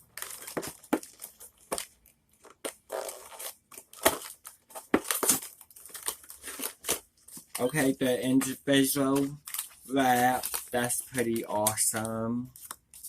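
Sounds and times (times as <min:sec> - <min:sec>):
plastic wrapper crinkling and tearing: 0:00.0 - 0:13.0.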